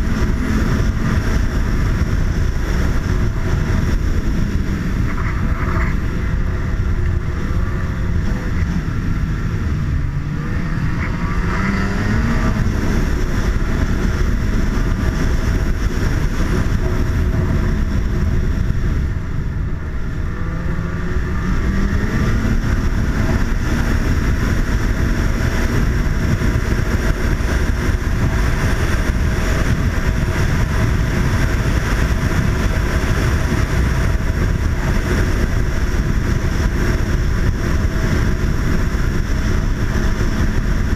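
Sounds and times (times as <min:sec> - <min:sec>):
snowmobile engine rumbling: 0:00.0 - 0:40.9.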